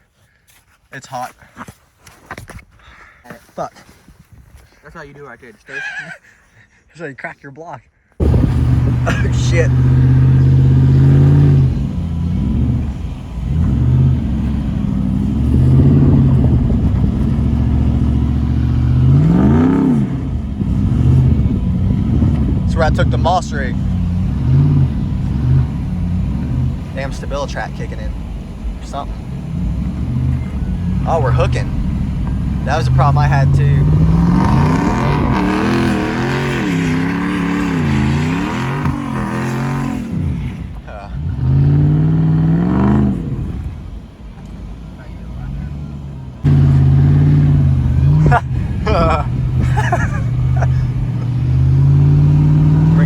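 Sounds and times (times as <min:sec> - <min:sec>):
car engine revving: 0:08.2 - 0:53.0.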